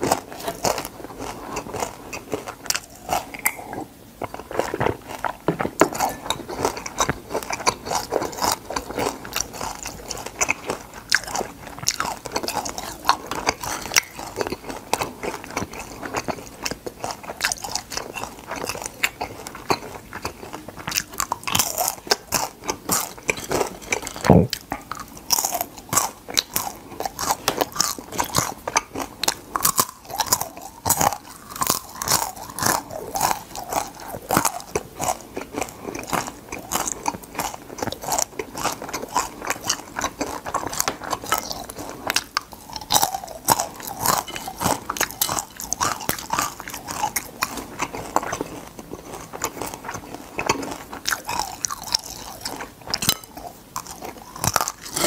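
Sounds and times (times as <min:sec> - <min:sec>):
chewing crispy fried crab: 0:00.0 - 0:55.0.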